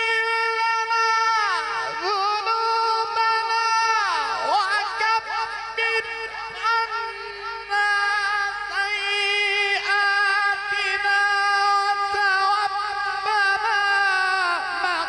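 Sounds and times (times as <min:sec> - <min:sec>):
man chanting melodic recitation: 0:00.0 - 0:15.0.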